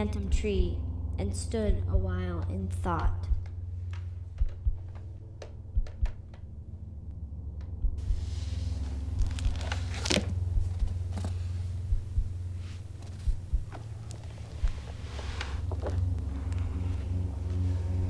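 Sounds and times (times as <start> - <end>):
low droning hum: 0.0 - 18.0
soft low thumps: 0.0 - 18.0.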